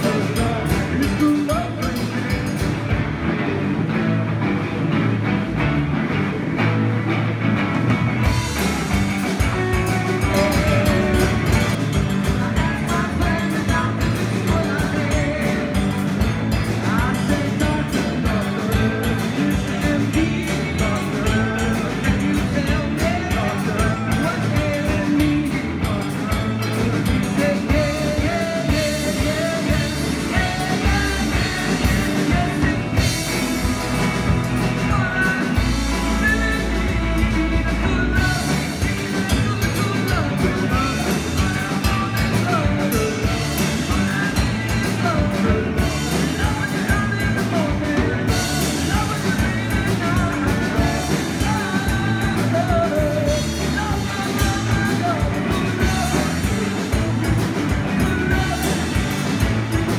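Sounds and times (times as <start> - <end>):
man singing: 0.0 - 3.0, 8.3 - 59.9
drum kit: 0.0 - 59.9
electric guitars: 0.0 - 59.9.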